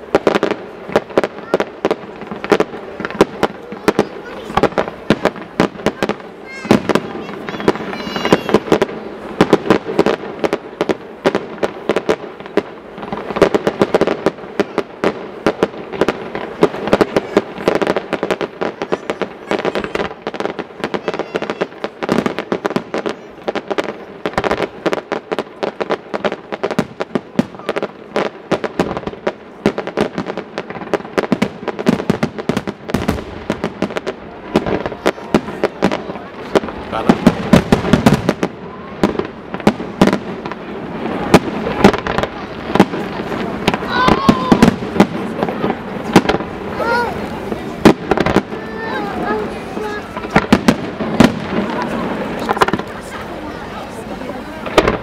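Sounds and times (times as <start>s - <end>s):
firework shells bursting: 0.0s - 53.4s, 54.6s - 55.0s.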